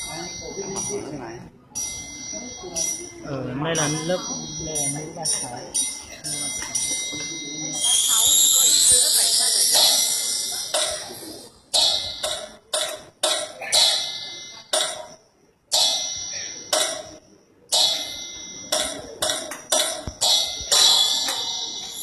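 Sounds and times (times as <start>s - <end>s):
metal bell ringing: 0.0s - 22.0s.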